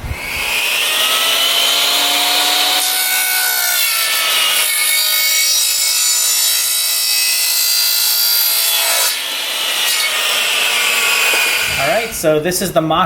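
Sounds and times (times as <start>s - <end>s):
saw cutting pipe: 0.0s - 12.2s.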